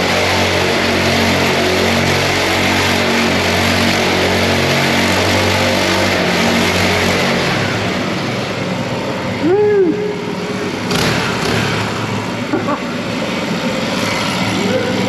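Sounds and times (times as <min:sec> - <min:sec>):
small bike engine running: 0:00.0 - 0:15.0.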